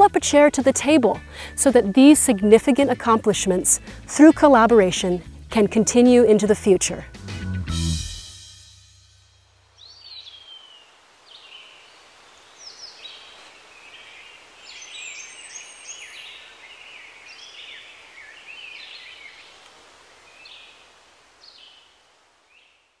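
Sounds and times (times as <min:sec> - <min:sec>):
soft outdoor hiss: 0:00.0 - 0:23.0.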